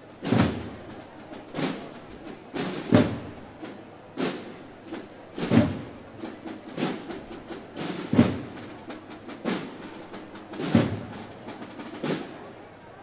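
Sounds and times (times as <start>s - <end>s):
slow heavy drum strokes: 0.0s - 13.0s.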